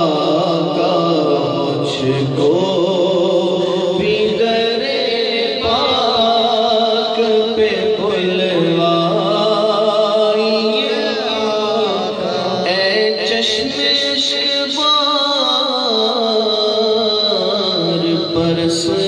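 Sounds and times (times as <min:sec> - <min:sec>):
man singing into a microphone: 0:00.0 - 0:19.0.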